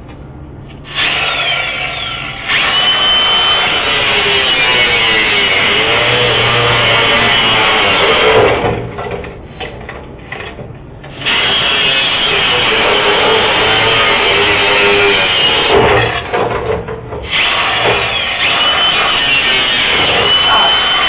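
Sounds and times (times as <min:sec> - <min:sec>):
angle grinder grinding metal: 0:00.9 - 0:08.8, 0:11.1 - 0:16.3, 0:17.2 - 0:21.0.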